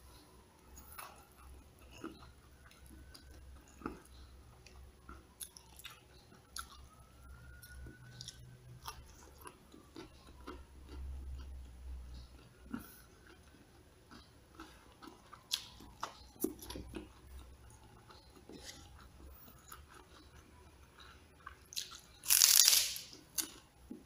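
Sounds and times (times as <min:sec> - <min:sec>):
faint low hum: 0:00.0 - 0:24.0
person chewing with mouth clicks: 0:00.7 - 0:22.5.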